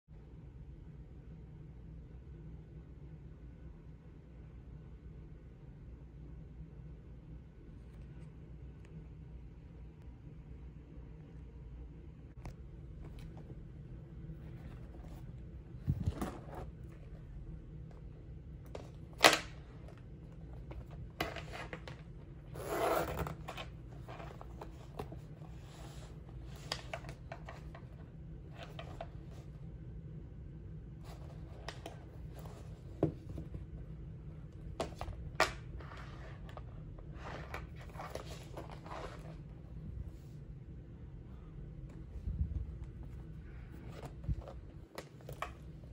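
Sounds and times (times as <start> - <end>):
low steady hum: 0.1 - 45.9.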